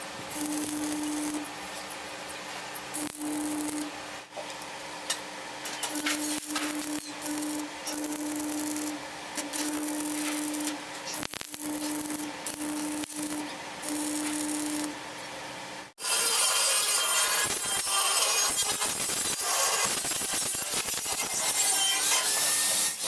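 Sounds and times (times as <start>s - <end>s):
electric arc welding crackle: 0.0s - 4.4s, 5.6s - 15.0s, 16.0s - 23.0s
welding machine hum: 0.0s - 23.0s.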